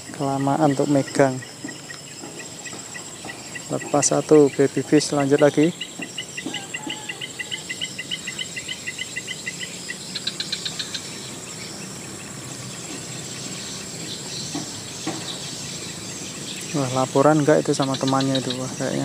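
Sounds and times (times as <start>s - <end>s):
insects shrilling: 0.0s - 19.0s
short chirping calls: 0.0s - 19.0s.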